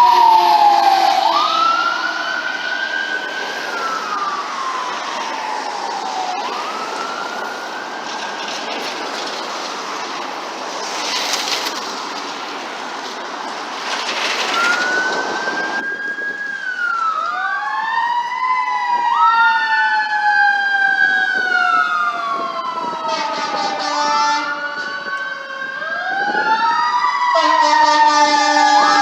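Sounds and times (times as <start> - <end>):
electronic sirens wailing: 0.0 - 10.6, 14.4 - 29.0
fire engine passing: 0.0 - 29.0.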